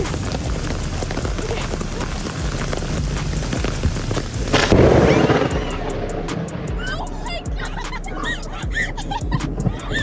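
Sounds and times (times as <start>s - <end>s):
steady rain falling: 0.0s - 10.0s
thunder clap rumbling: 0.0s - 10.0s.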